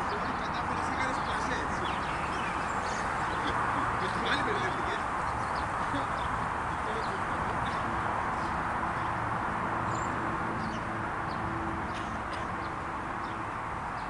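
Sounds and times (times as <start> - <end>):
open-air background hiss: 0.0 - 14.0.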